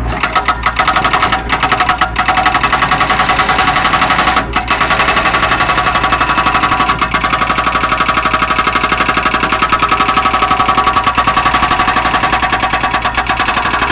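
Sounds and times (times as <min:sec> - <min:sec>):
diesel excavator engine clattering: 0:00.0 - 0:13.9.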